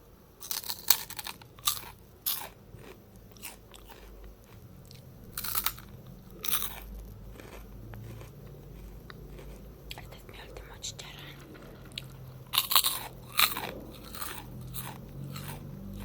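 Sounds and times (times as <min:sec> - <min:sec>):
crunchy snack being chewed: 0:00.4 - 0:16.0.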